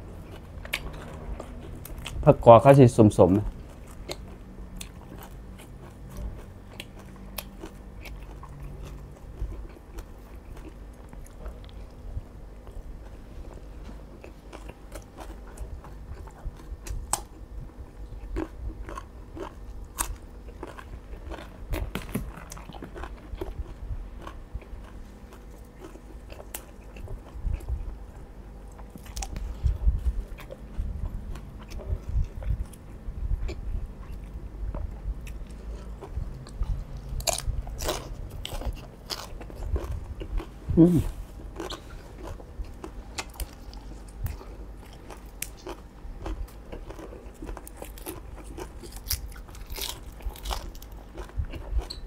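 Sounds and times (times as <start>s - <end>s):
person chewing and crunching: 0.0s - 52.0s.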